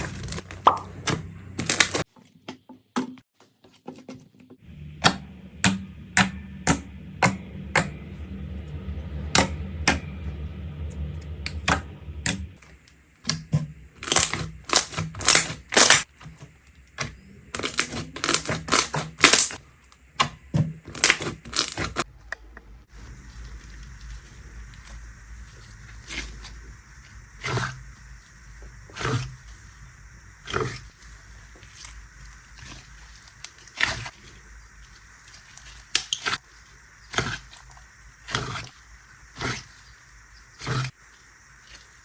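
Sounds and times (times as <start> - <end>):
low steady hum: 4.6 - 42.0.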